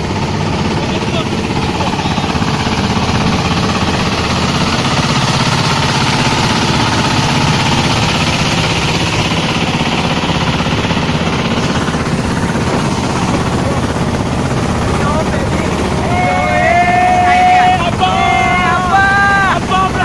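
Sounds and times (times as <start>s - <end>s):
boat diesel engine chugging: 0.0s - 20.0s.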